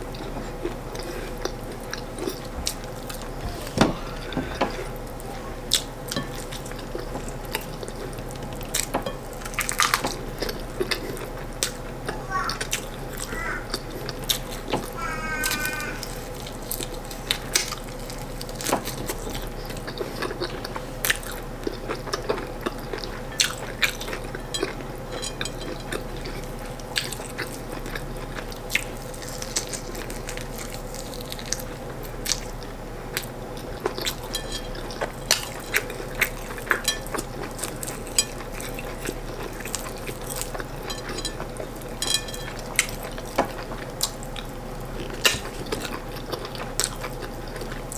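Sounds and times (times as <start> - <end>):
person chewing and smacking: 0.0 - 3.6, 4.2 - 47.9
faint steady hum: 0.0 - 47.9.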